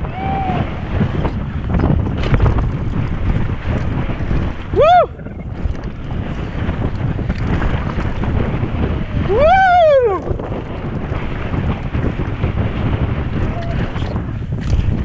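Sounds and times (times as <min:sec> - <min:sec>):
wind buffeting microphone: 0:00.0 - 0:15.0
tyres rumbling over dirt: 0:00.5 - 0:15.0.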